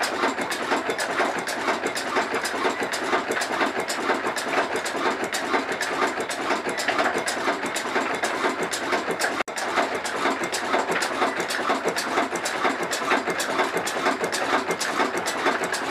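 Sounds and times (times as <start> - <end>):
diesel engine clattering: 0.0 - 15.9.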